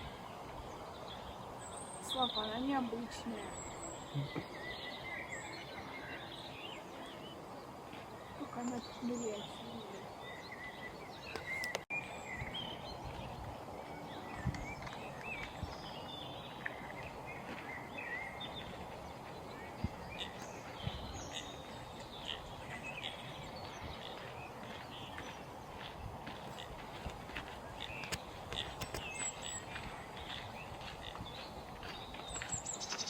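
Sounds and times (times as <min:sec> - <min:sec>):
outdoor background noise: 0:00.0 - 0:33.0
small birds chirping: 0:00.0 - 0:33.0.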